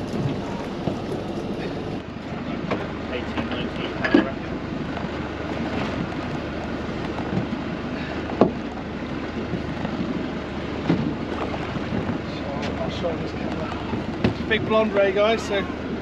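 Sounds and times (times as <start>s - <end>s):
water noise around boat: 0.0s - 16.0s
wind: 0.0s - 16.0s.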